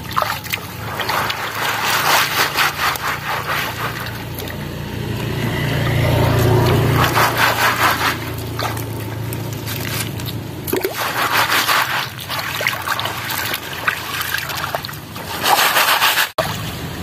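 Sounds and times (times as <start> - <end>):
water sloshing through bamboo sieve: 0.0 - 17.0
clams and gravel shifting: 0.6 - 5.2, 6.0 - 16.4.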